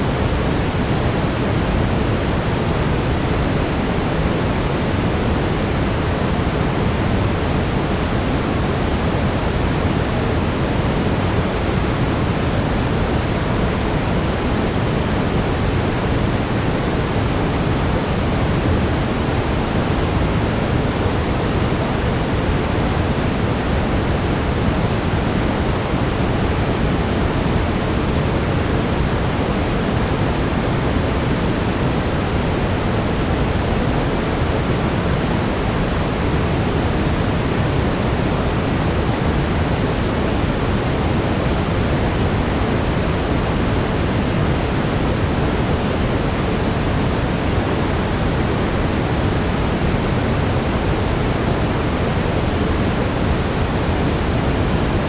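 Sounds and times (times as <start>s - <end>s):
deep brown noise hiss: 0.0s - 55.0s.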